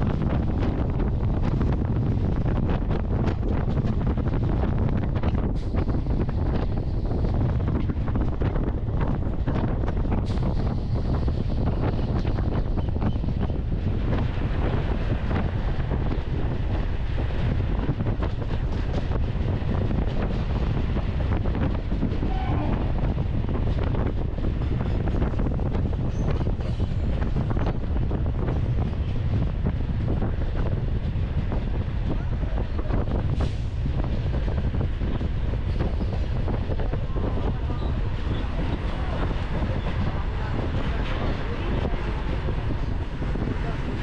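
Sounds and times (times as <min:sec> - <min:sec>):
low rumble of train wheels: 0:00.0 - 0:44.0
wind buffeting microphone: 0:00.0 - 0:44.0.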